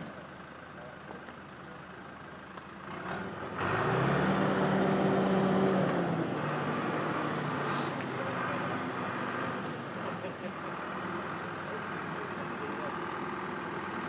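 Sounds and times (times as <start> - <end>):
diesel engine idling and revving: 0.0 - 14.0.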